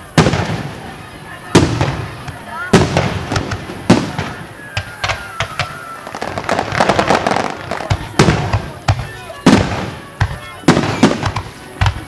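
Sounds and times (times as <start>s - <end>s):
fireworks bangs: 0.0s - 12.0s
rapid fireworks crackling: 0.0s - 12.0s.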